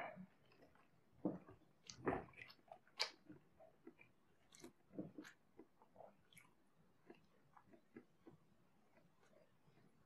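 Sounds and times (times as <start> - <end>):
person chewing: 1.8 - 9.9.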